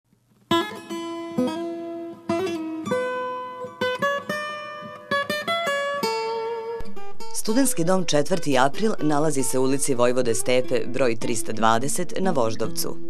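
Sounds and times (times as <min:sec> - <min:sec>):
acoustic guitar music: 0:00.1 - 0:13.0.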